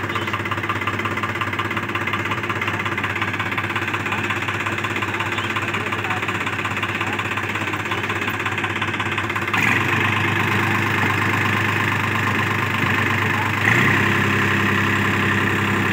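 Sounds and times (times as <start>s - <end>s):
tractor diesel engine under load: 0.0s - 15.9s.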